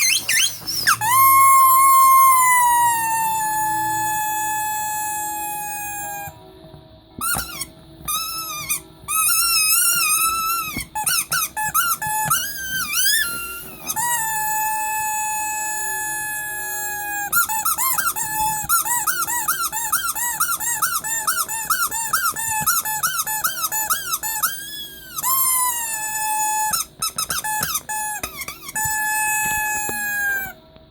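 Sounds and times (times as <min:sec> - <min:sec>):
squeaky toy squeaking: 0:00.0 - 0:06.4, 0:07.2 - 0:30.6.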